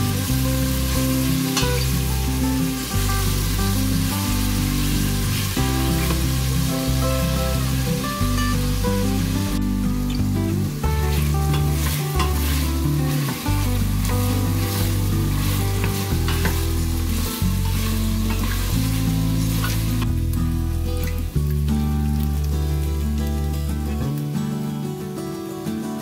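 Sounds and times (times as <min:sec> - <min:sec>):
meat sizzling in hot oil: 0:00.0 - 0:23.9
background music: 0:00.0 - 0:26.0.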